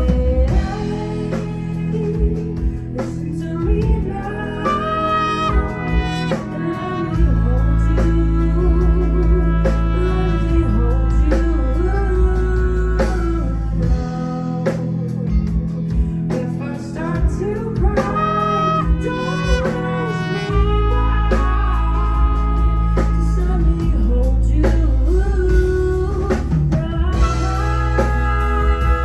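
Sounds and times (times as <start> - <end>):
guitar: 0.0 - 29.0
person singing: 0.0 - 29.0
steady drum beat: 0.0 - 29.0.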